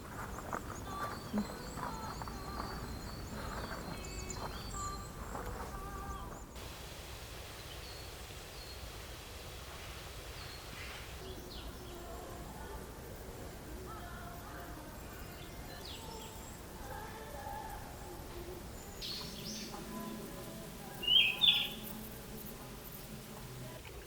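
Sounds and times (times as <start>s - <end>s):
small birds chirping: 0.0s - 6.6s, 9.8s - 23.6s
steady low hiss: 0.0s - 24.0s.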